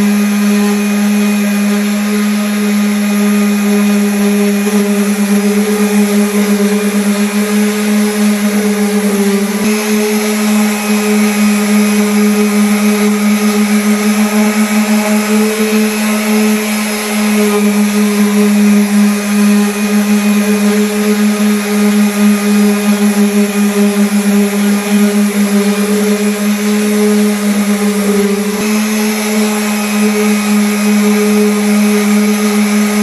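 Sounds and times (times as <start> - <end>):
electric sander on wood: 0.0 - 33.0.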